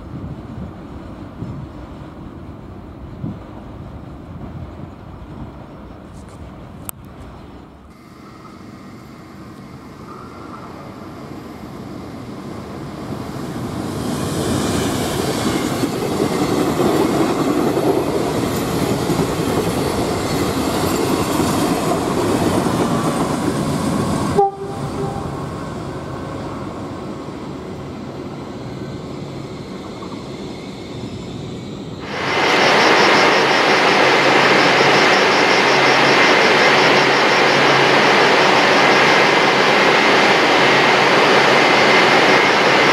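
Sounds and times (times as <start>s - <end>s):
train rolling through station: 0.0s - 42.9s.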